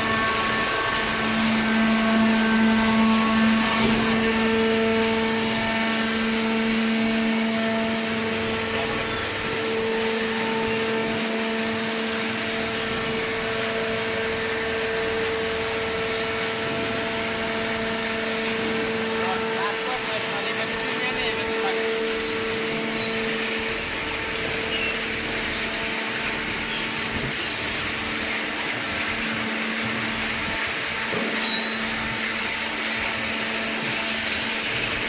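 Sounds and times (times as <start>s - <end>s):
baling machine pump motor humming: 0.0s - 35.0s.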